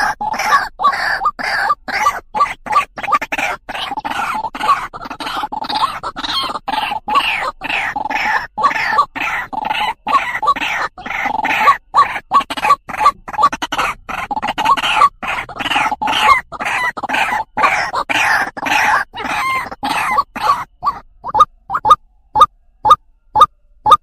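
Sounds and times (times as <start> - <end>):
waterhen calling harsh notes: 0.0 - 24.0.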